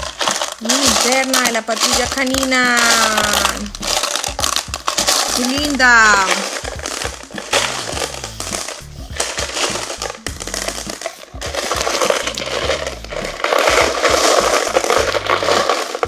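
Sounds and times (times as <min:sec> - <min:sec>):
plastic toy clicking and scraping: 0:00.0 - 0:16.0.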